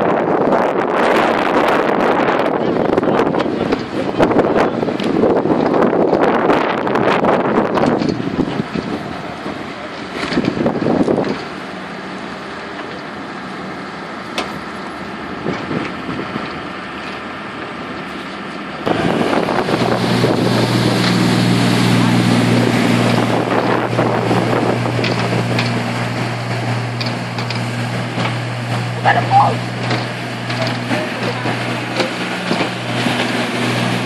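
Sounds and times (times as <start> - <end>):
wind buffeting microphone: 0.0 - 11.6, 15.2 - 17.0, 18.8 - 34.0
engine running steadily: 0.0 - 34.0
low even drone: 0.0 - 34.0.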